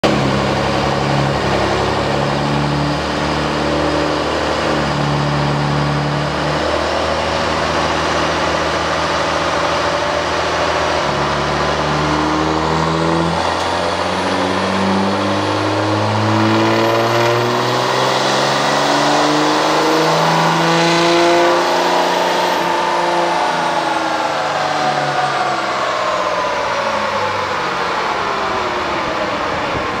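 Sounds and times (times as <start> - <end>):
diesel engine under load: 0.0 - 30.0
high turbo whistle: 0.4 - 30.0.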